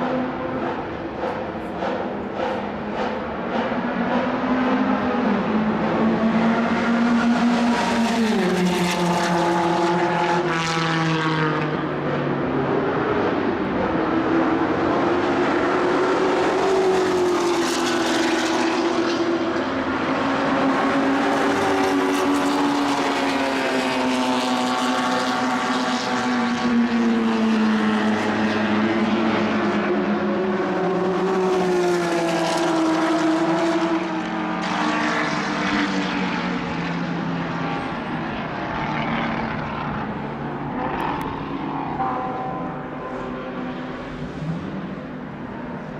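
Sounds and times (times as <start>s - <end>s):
racing car engines revving: 0.0s - 45.9s.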